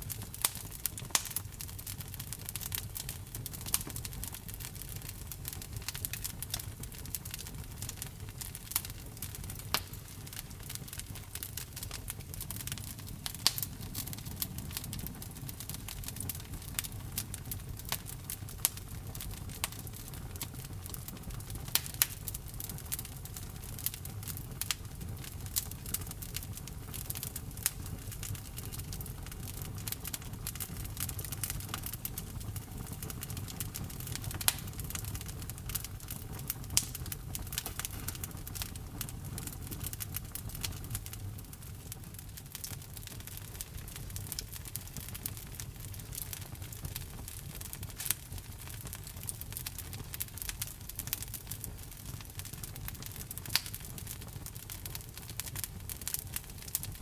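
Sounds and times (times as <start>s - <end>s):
burning logs popping: 0.0s - 57.0s
wood fire crackling: 0.0s - 57.0s.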